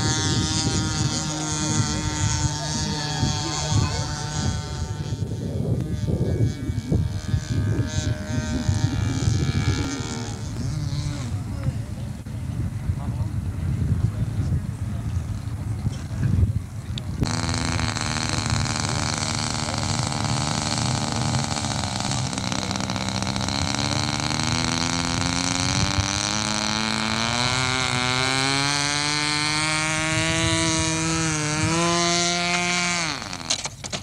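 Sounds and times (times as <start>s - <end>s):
model airplane engine running: 0.0s - 34.0s.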